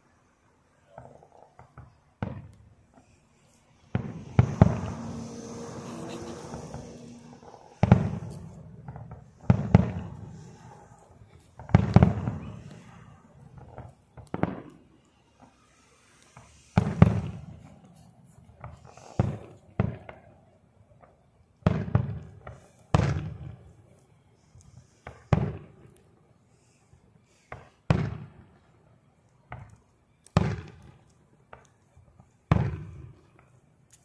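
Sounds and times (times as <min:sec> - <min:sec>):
distant firework bangs: 0:00.9 - 0:23.8, 0:24.4 - 0:26.0, 0:26.6 - 0:28.8, 0:29.5 - 0:33.6.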